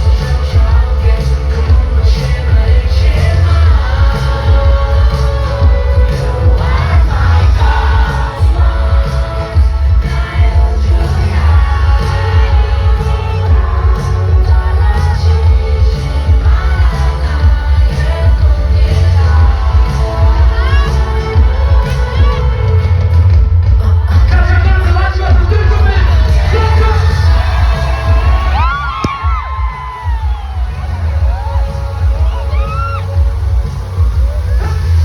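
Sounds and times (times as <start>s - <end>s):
heavy bass beat: 0.0s - 35.0s
person singing: 0.0s - 35.0s.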